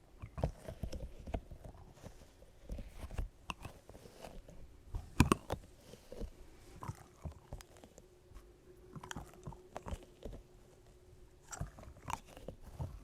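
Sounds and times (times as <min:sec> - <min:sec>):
soft clicks and crackles: 0:00.0 - 0:13.0.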